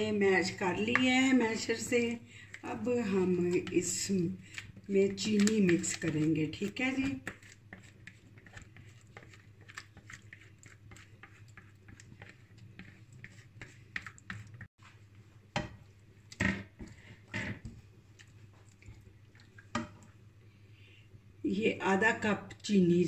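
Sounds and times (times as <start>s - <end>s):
spatula scraping mash: 0.0s - 20.2s
spatula spreading mash in pan: 0.8s - 20.2s.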